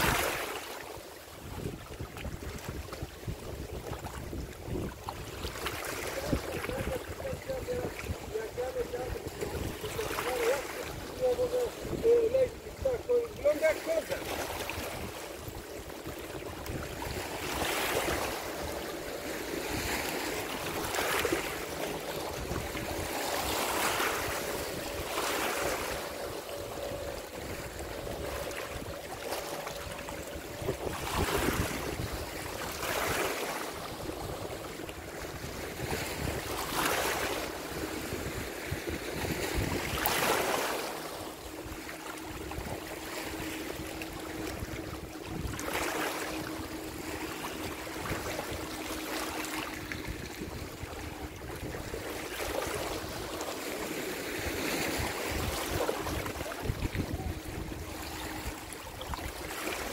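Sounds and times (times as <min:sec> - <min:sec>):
small waves lapping and splashing: 0:00.0 - 0:59.9
wind: 0:00.0 - 0:59.9.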